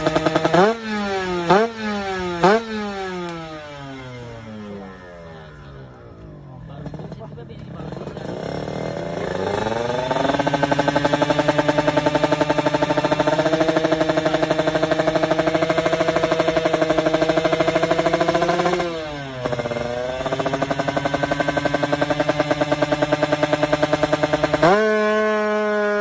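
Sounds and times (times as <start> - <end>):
motorcycle engine revving high: 0.0 - 26.0.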